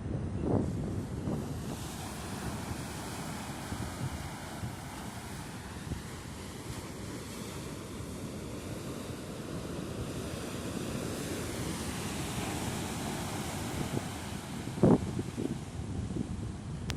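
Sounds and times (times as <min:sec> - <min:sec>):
wind on microphone: 0:00.0 - 0:16.9
surf-like wash of water: 0:00.6 - 0:16.9.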